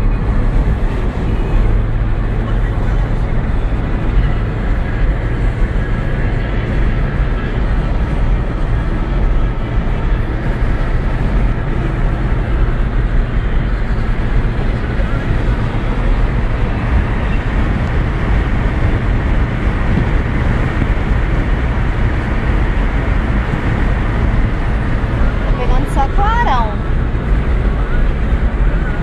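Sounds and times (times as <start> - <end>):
car road and wind noise: 0.0 - 29.0.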